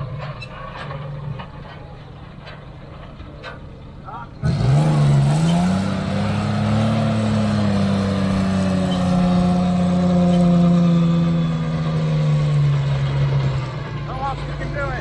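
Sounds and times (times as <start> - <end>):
truck engine labouring: 0.0 - 15.0.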